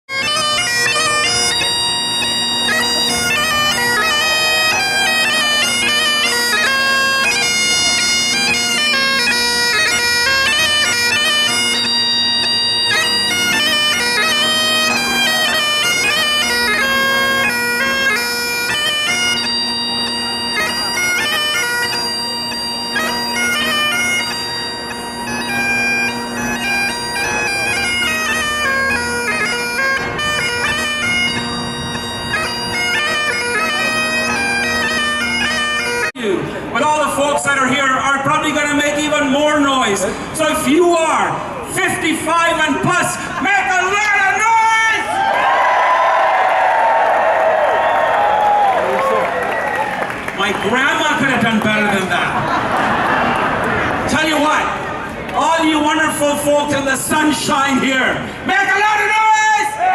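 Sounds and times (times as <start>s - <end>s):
bagpipes playing a tune: 0.1s - 45.2s, 48.0s - 59.8s.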